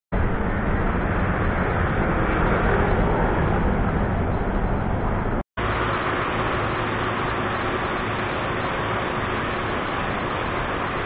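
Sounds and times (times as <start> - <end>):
deep rumble: 0.1 - 11.0
loud rushing noise: 0.1 - 11.0.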